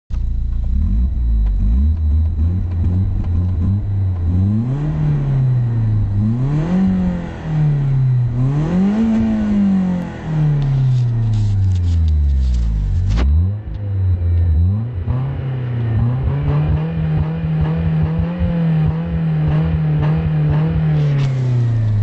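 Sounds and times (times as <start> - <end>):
car engine idling and revving: 0.1 - 22.0.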